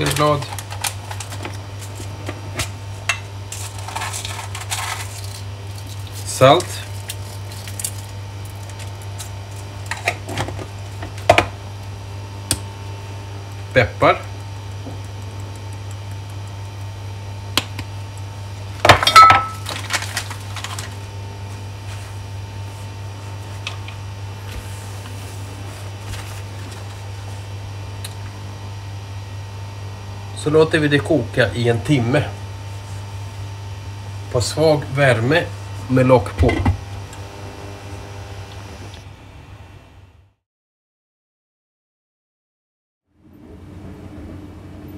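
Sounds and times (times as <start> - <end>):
steady low hum: 0.0 - 40.4, 43.1 - 44.9.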